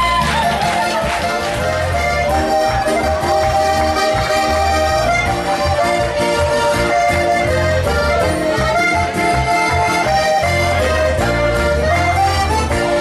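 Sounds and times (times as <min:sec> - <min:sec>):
bass notes beat: 0:00.0 - 0:13.0
button accordion melody: 0:00.0 - 0:13.0
short offbeat chords: 0:00.0 - 0:13.0.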